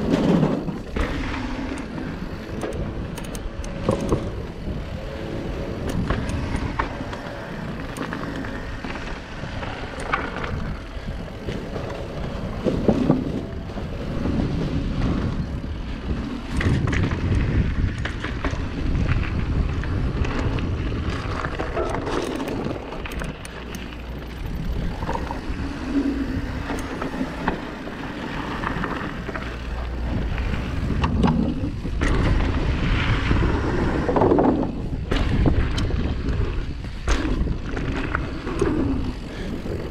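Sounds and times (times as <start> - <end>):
bike chain and frame rattling: 0.0 - 39.9
bike tyres rumbling on dirt: 0.0 - 39.9
wind rushing over microphone: 0.0 - 39.9.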